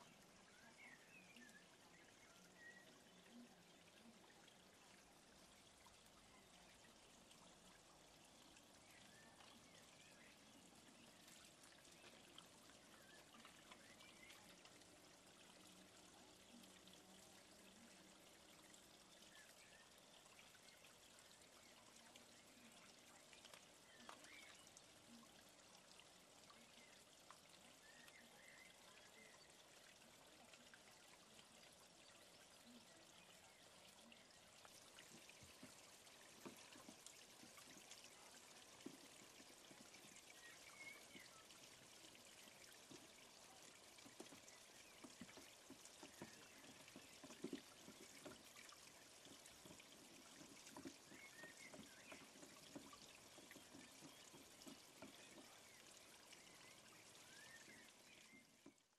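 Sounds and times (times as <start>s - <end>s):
small water splashes: 0.0s - 58.9s
water trickling: 0.0s - 58.9s.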